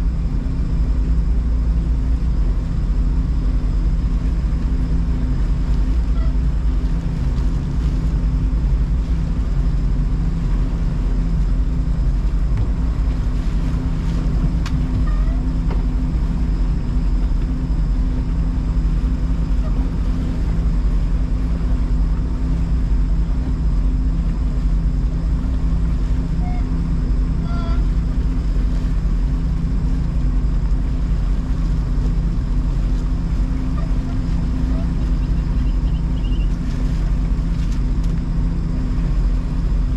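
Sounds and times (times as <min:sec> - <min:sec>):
motorboat engine humming: 0:00.0 - 0:39.9
water around a boat hull: 0:00.0 - 0:39.9.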